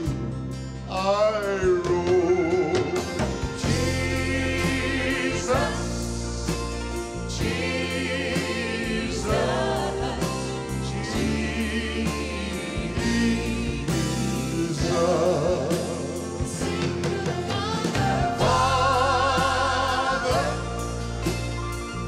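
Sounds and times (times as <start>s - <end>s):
gospel band with piano: 0.0s - 22.0s
backing singers: 2.8s - 21.4s.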